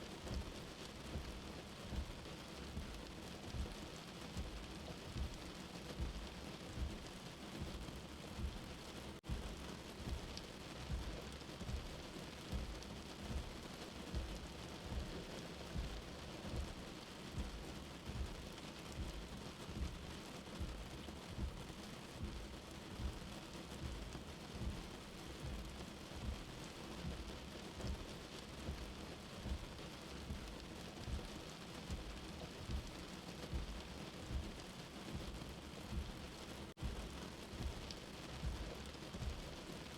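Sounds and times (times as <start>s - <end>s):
slow heartbeat thumping: 0.3s - 39.9s.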